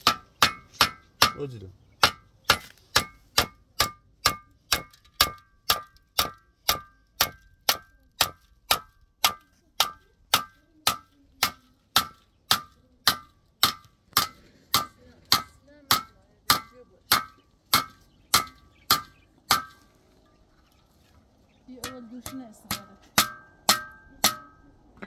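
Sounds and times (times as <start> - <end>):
hammering with metallic ring: 0.0 - 19.9, 21.7 - 24.8.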